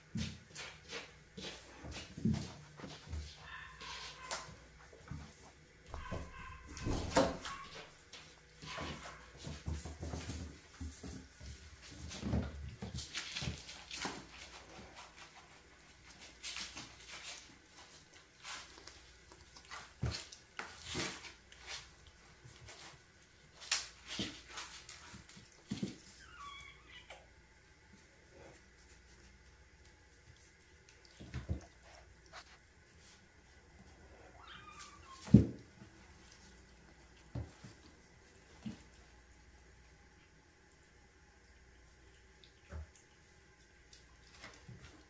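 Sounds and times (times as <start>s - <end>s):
kittens scuffling on tile floor: 0.0s - 45.0s.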